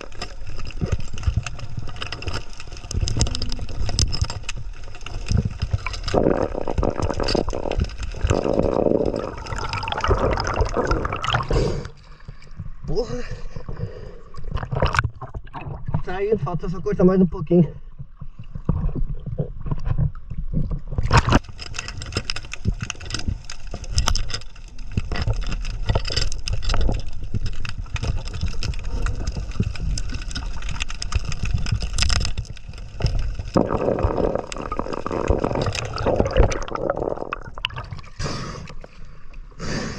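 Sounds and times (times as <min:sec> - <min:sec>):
water gurgling and sloshing: 0:00.0 - 0:39.7.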